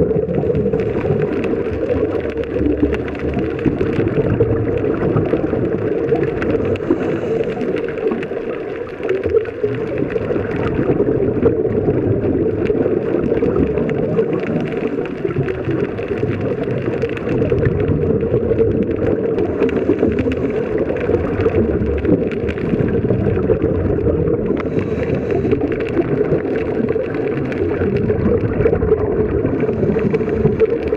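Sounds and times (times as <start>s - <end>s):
muffled underwater rushing: 0.0s - 30.9s
regulator bubbles gurgling: 0.0s - 30.9s.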